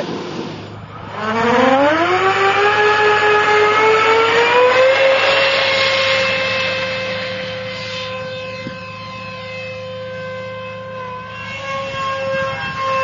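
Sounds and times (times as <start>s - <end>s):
electric fan motor whine: 0.0s - 13.0s.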